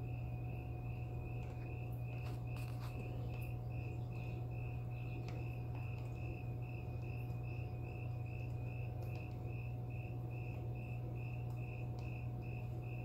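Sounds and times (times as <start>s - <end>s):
aquarium equipment humming: 0.0s - 13.0s.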